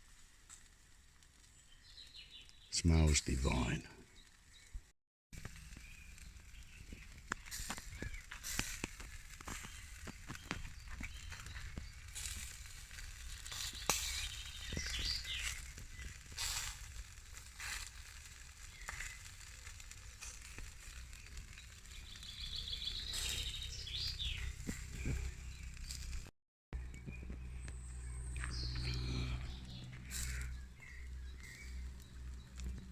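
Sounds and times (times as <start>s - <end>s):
meat sizzling on barbecue: 0.0s - 4.7s, 5.4s - 32.9s
fat crackling and popping: 0.0s - 32.9s.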